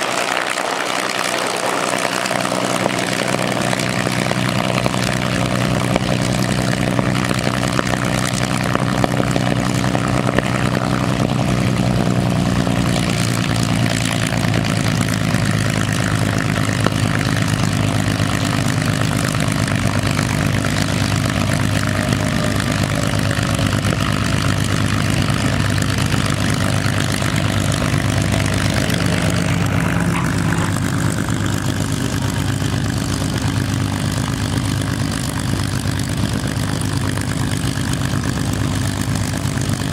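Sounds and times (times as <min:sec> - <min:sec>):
propeller plane engine idling: 0:00.0 - 0:39.9.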